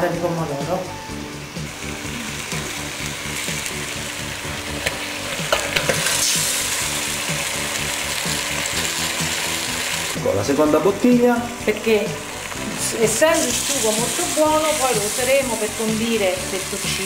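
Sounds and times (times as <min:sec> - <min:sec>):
meat and onion sizzling: 0:00.0 - 0:17.0.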